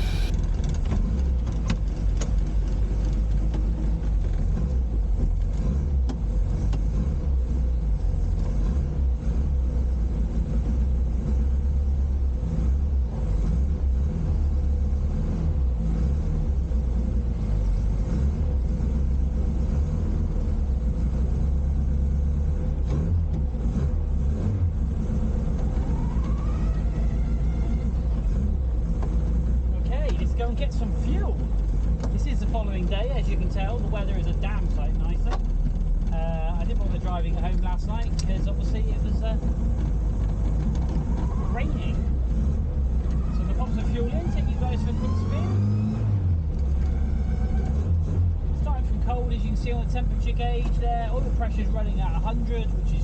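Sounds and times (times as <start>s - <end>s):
car engine rumbling: 0.0s - 53.0s.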